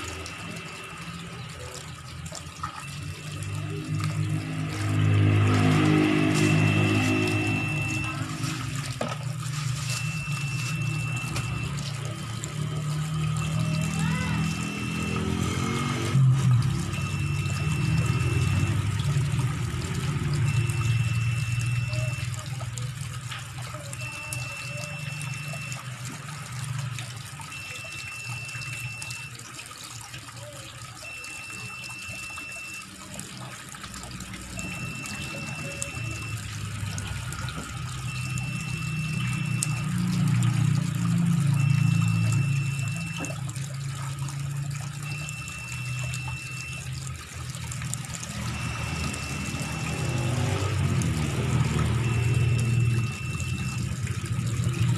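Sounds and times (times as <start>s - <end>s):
tap water splashing into tub: 0.0s - 54.9s.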